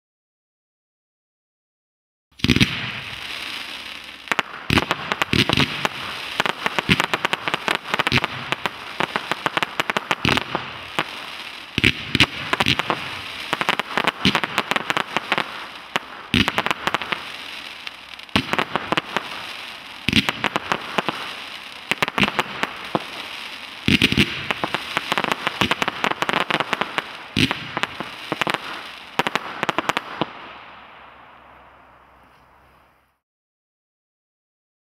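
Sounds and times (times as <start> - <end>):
firework shots: 2.4 - 31.7
firework crackling: 2.4 - 33.1.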